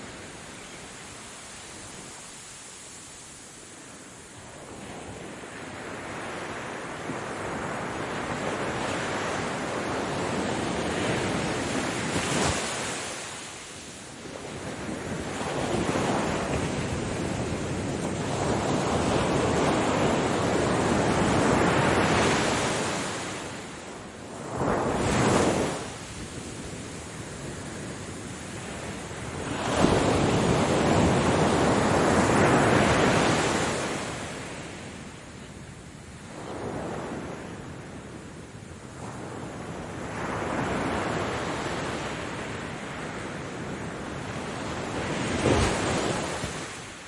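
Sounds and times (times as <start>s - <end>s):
ocean waves breaking on shore: 0.0s - 47.0s.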